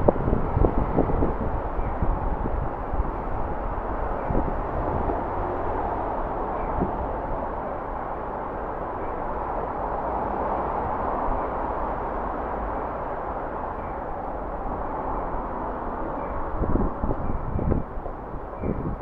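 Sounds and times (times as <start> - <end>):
city traffic rumble and hiss: 0.0 - 19.0.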